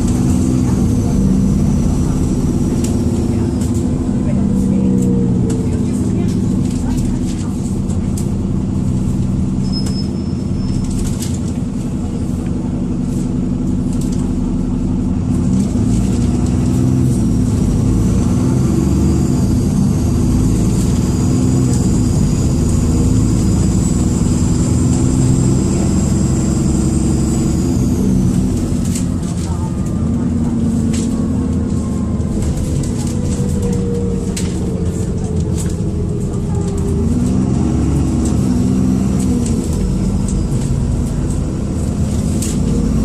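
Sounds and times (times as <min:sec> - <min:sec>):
bus diesel engine droning: 0:00.0 - 0:43.0.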